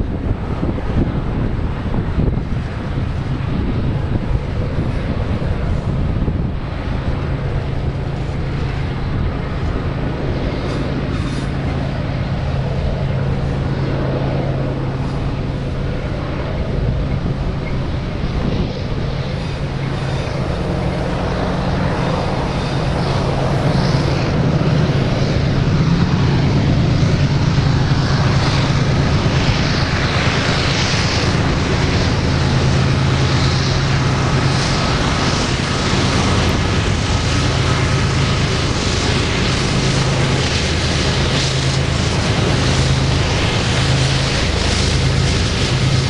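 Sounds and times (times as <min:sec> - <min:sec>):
diesel locomotive engine drone: 0:00.0 - 0:46.0.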